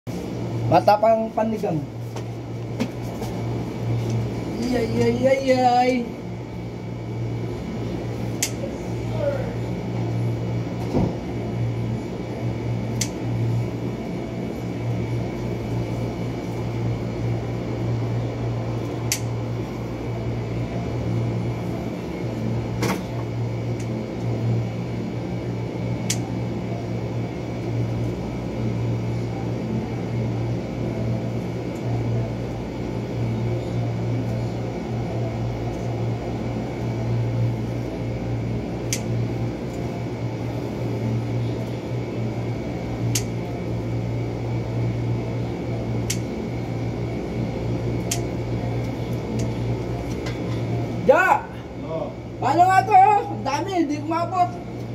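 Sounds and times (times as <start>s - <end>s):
cooling fan humming: 0.0s - 54.9s.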